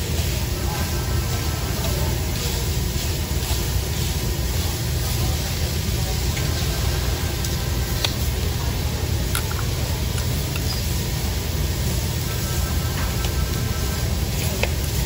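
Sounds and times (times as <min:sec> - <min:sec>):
meat sizzling on a griddle: 0:00.0 - 0:15.0
low rumble: 0:00.1 - 0:15.0.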